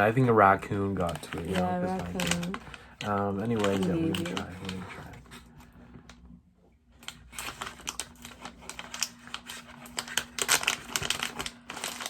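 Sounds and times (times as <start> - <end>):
plastic packet crinkling: 0.0 - 5.4, 7.0 - 12.0.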